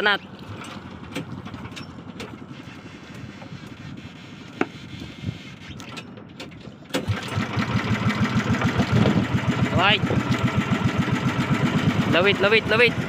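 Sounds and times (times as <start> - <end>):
small boat engine running: 0.0 - 13.0
wind and water noise: 0.0 - 13.0.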